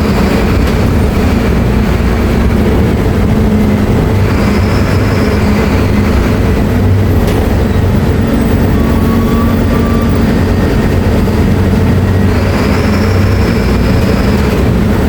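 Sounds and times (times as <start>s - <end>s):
bus engine drone: 0.0s - 15.0s
road rumble: 0.0s - 15.0s.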